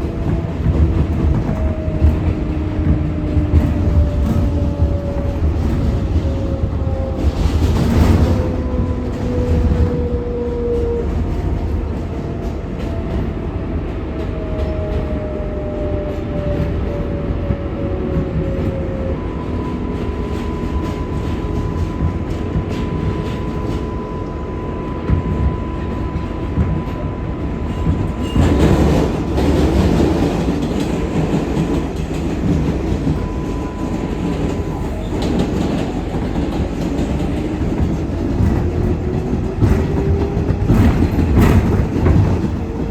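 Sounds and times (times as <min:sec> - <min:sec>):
wheels rumbling on rail: 0:00.0 - 0:42.9.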